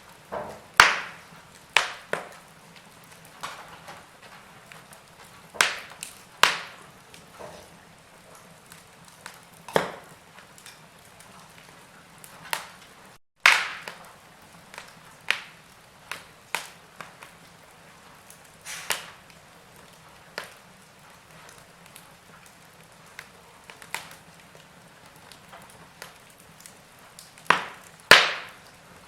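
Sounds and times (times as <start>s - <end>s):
wood fire crackling: 0.0s - 29.0s
sharp snaps and pops: 0.7s - 7.7s, 8.3s - 17.6s, 18.2s - 28.8s.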